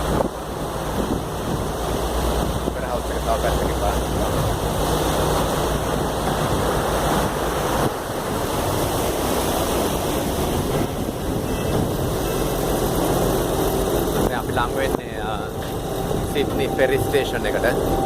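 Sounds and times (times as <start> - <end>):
low engine hum: 0.0 - 18.0
water rushing along hull: 0.0 - 18.0
wind on microphone: 0.0 - 18.0.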